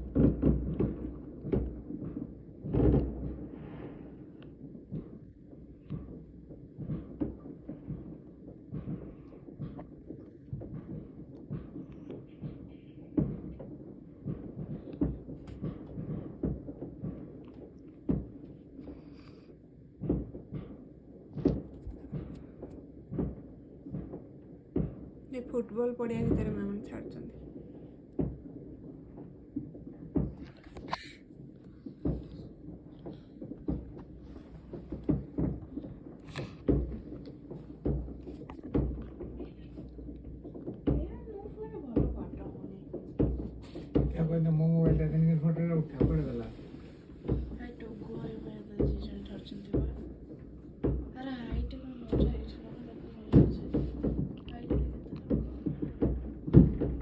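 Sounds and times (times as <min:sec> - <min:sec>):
distant fireworks booms and pops: 0:00.0 - 0:57.0.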